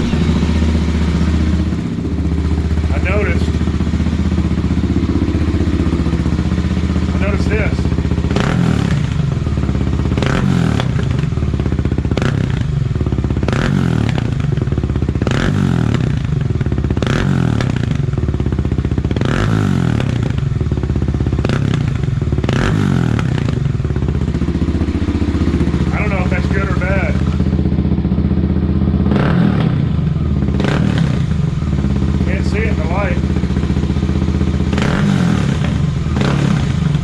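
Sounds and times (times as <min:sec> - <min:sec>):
motorcycle engine throttle blips: 0:00.0 - 0:37.0.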